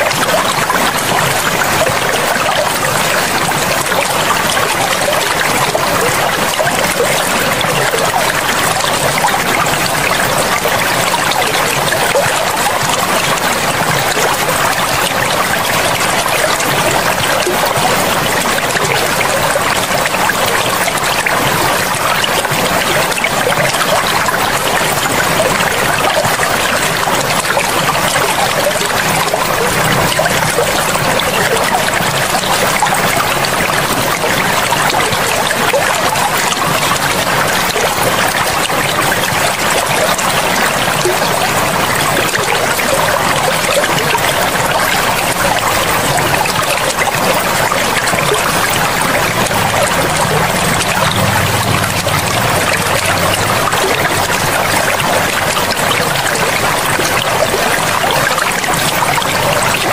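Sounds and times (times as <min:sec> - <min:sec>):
river water rushing and trickling: 0:00.0 - 0:59.9.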